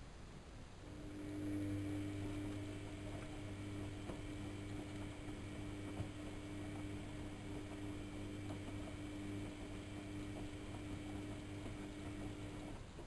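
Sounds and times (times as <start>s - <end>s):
washing machine motor humming: 0.8s - 13.0s.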